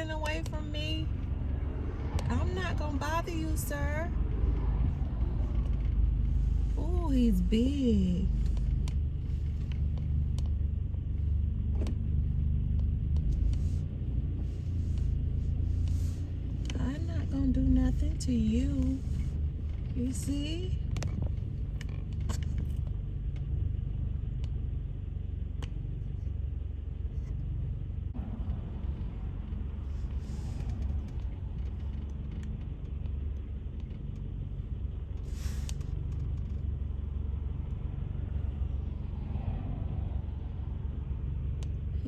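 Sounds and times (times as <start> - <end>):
truck engine rumbling: 0.0 - 42.0.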